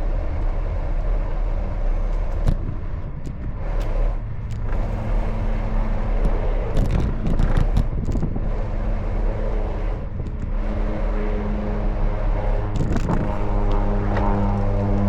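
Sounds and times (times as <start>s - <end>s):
engine drone: 0.0s - 15.0s
engine hum: 0.0s - 15.0s.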